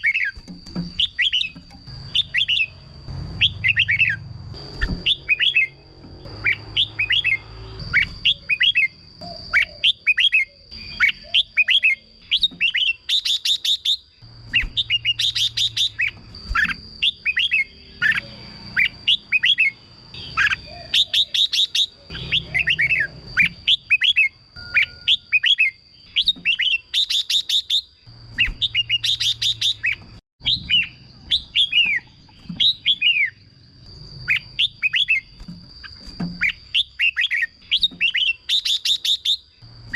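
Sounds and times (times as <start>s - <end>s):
bird whistling and rattling: 0.0s - 2.8s, 3.4s - 33.4s, 34.2s - 39.4s.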